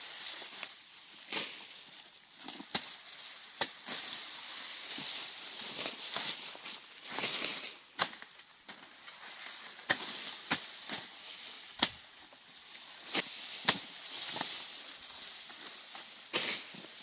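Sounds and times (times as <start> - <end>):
rustling leaves: 0.0 - 17.0.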